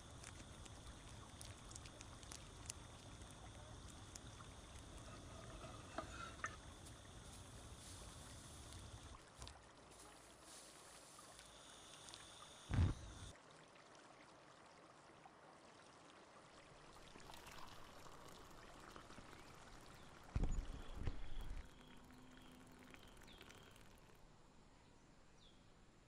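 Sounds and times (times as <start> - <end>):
faint running water: 0.0 - 24.3.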